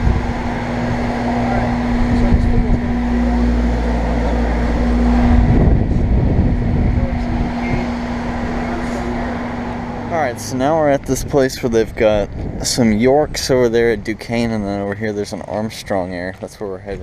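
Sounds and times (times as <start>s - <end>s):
deep rumble: 0.0s - 15.7s
mechanical hum with constant tone: 0.0s - 17.0s.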